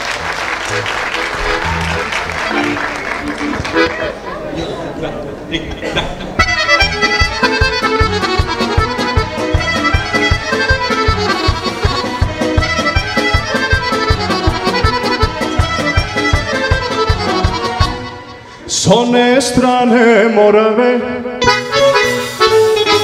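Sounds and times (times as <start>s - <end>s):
accordion folk band playing: 0.0s - 23.0s.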